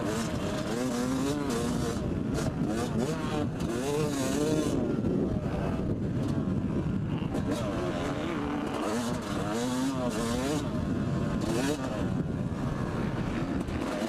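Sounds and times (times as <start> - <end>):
motorcycle engine revving: 0.0 - 14.0
wind rushing over microphone: 0.0 - 14.0.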